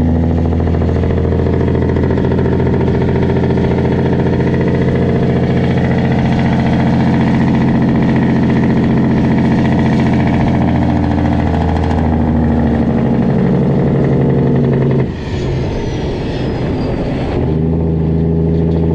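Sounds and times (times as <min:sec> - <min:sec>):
diesel truck engine running: 0:00.0 - 0:18.9.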